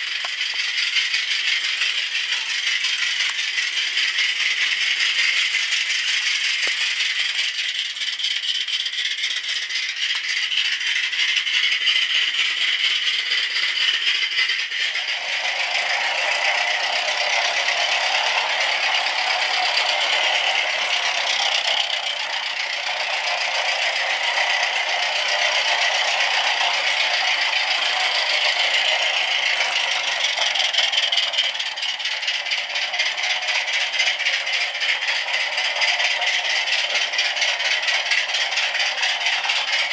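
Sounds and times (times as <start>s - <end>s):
model steam locomotive running: 0.0s - 39.9s.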